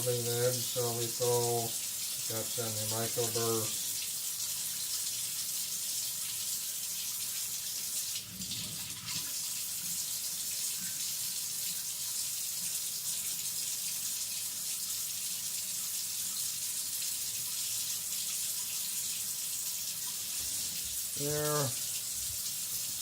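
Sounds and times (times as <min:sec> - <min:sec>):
tap water running: 0:00.0 - 0:23.0.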